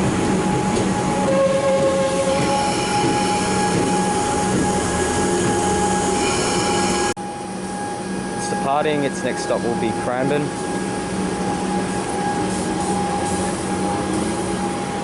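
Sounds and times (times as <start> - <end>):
electric train running gear drone: 0.0 - 15.0
whining tones: 0.4 - 15.0.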